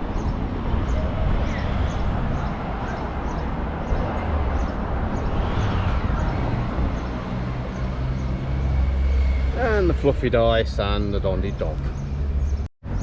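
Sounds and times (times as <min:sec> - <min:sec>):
vehicle passing: 0:01.6 - 0:12.7.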